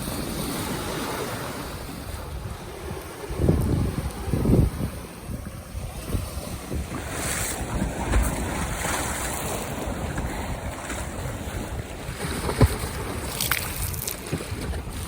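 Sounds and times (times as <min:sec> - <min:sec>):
lake waves lapping: 0:00.0 - 0:15.0
wind buffeting microphone: 0:00.0 - 0:15.0.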